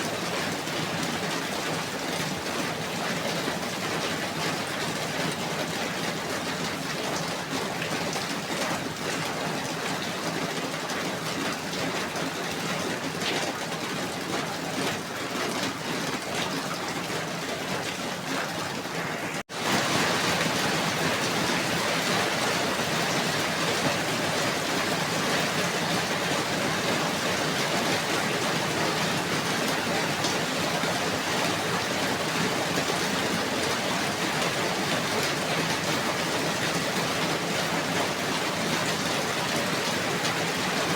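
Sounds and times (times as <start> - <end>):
steady falling rain: 0.0 - 40.9.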